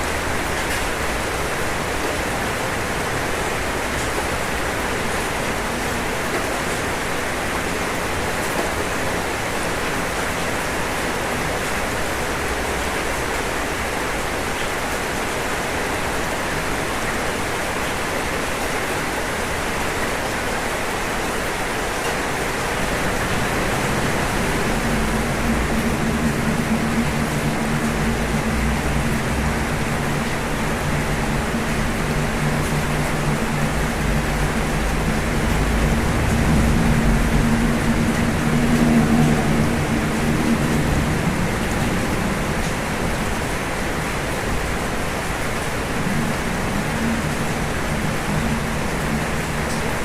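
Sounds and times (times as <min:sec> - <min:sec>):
rain on a roof: 0:00.0 - 0:50.0.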